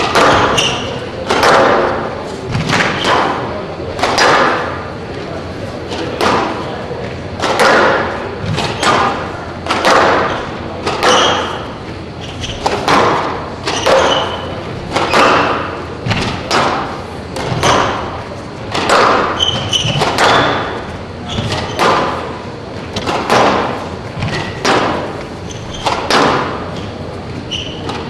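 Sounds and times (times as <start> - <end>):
squash ball cracking off racquets: 0.0 - 4.9, 5.9 - 6.7, 7.3 - 27.0.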